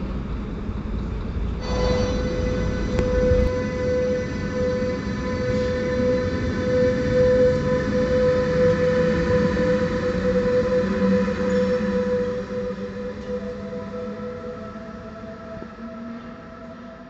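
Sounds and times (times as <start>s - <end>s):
train wheels rumbling on rails: 0.0s - 17.0s
electric whine: 1.6s - 15.7s.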